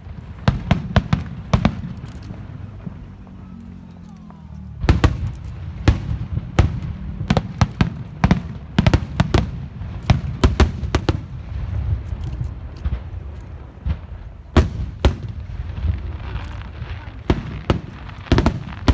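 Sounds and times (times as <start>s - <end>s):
fireworks sharp bangs: 0.0s - 18.9s.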